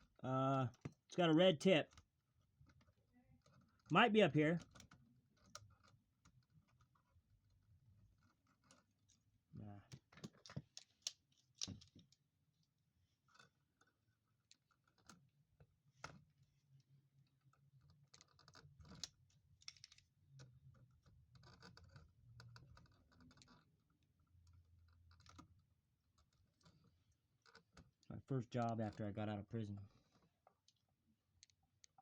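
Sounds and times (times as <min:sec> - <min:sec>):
faint clicks and rustling: 0:01.8 - 0:32.0.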